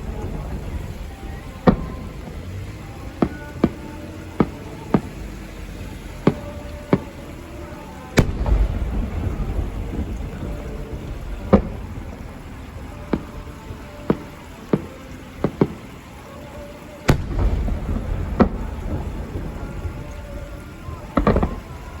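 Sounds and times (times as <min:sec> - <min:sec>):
fireworks bangs: 0:00.0 - 0:22.0
low rolling rumble: 0:00.0 - 0:22.0.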